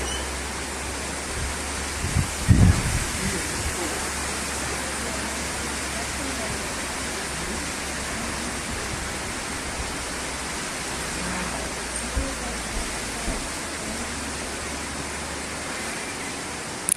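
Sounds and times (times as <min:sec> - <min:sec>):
low rumble: 0:00.0 - 0:15.7
steady background hiss: 0:00.0 - 0:16.9.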